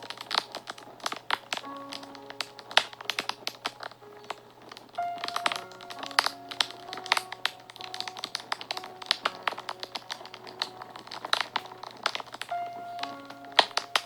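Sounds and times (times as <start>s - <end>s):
soft background music: 0.0s - 14.0s
wood fire crackling and popping: 0.0s - 14.0s.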